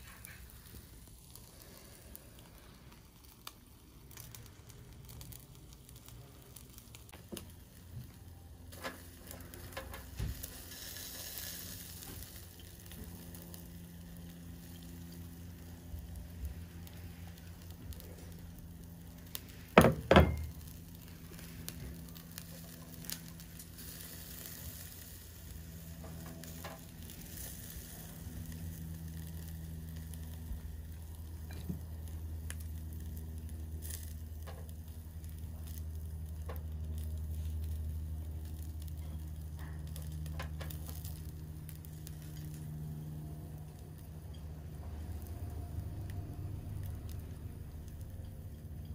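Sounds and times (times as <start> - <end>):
low hum: 0.0 - 48.9
meat sizzling on a grill: 0.0 - 48.9.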